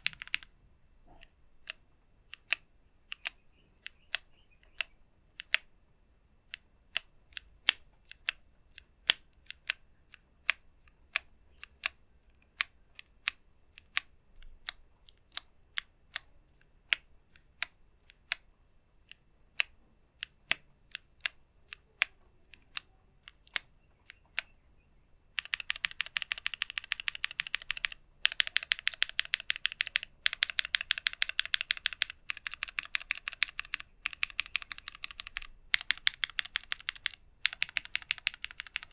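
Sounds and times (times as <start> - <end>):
mechanical keyboard typing: 0.0 - 0.5, 1.6 - 5.7, 6.5 - 16.3, 19.6 - 24.5, 25.3 - 38.9.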